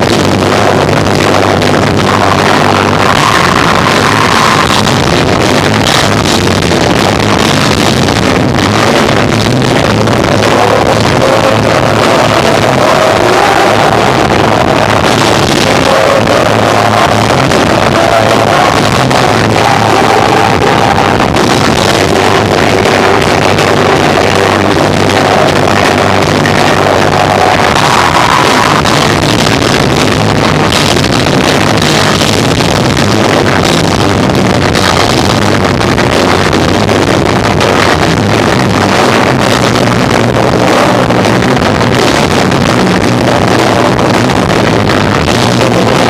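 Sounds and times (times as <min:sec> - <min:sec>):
distorted live rock band: 0:00.0 - 0:46.0.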